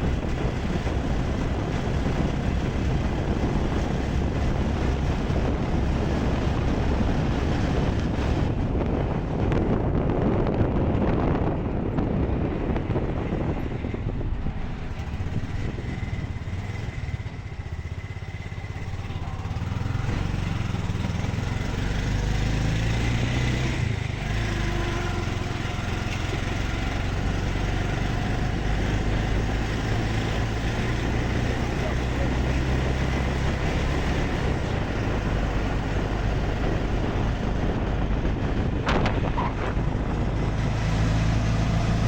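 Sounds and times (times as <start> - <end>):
road noise: 0.0 - 42.0
vehicle engine hum: 0.0 - 42.0.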